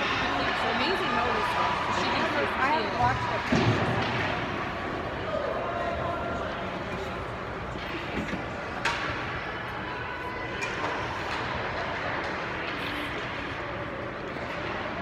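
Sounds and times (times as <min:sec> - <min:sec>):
ice hockey arena background noise: 0:00.0 - 0:15.0.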